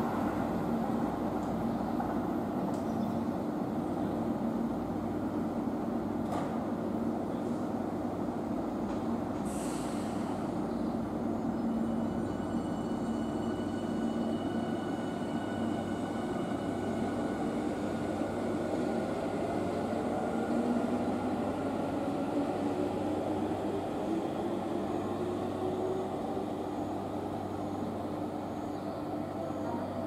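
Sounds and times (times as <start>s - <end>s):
train running gear rumble: 0.0s - 28.4s.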